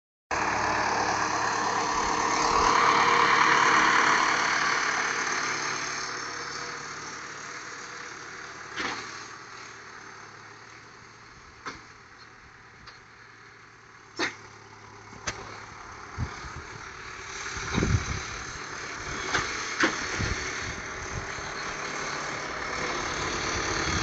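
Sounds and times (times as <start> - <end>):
tractor diesel engine running: 0.3 - 24.0.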